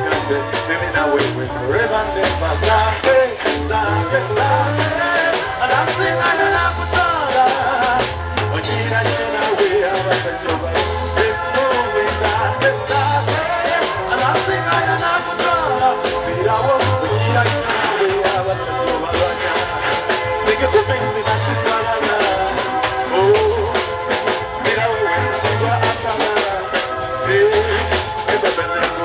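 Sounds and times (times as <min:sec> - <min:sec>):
bass guitar: 0:00.0 - 0:29.0
drum kit: 0:00.0 - 0:29.0
man singing into a microphone: 0:00.0 - 0:29.0.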